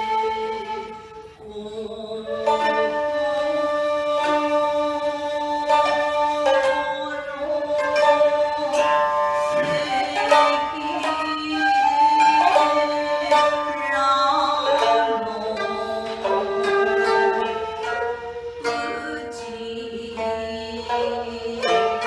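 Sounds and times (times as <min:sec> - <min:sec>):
bamboo flute long notes: 0:00.0 - 0:22.0
plucked string instruments: 0:00.0 - 0:22.0.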